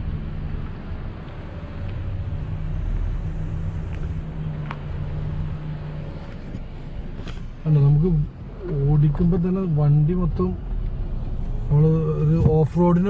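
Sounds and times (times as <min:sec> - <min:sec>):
car engine running: 0:00.0 - 0:13.0
road rumble on rough surface: 0:00.0 - 0:13.0.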